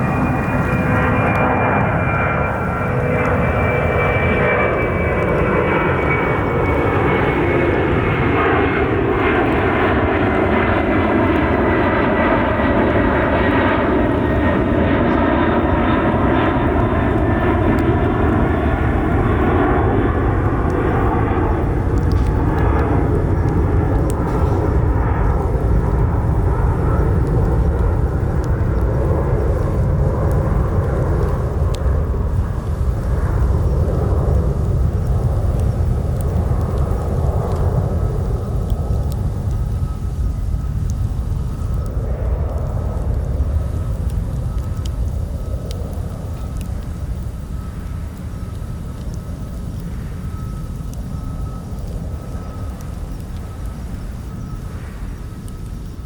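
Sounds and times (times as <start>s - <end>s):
jet airliner passing overhead: 0.0s - 56.0s.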